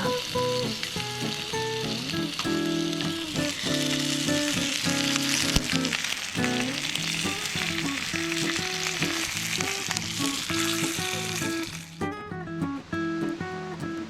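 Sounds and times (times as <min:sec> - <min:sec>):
pork sizzling: 0:00.0 - 0:12.1
plucked guitar music: 0:00.0 - 0:14.0.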